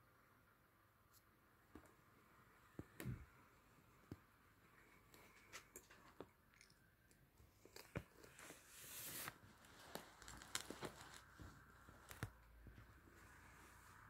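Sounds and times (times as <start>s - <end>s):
soft rustle: 1.1s - 14.0s.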